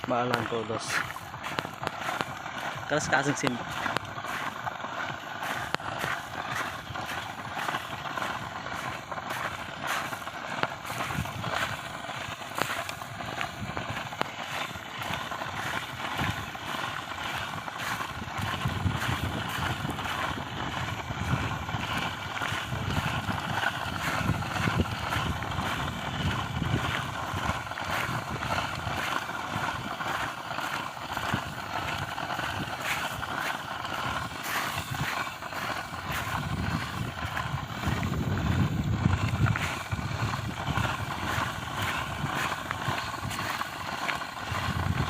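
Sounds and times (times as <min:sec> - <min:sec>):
dry corn stalks rustling: 0:00.0 - 0:45.0.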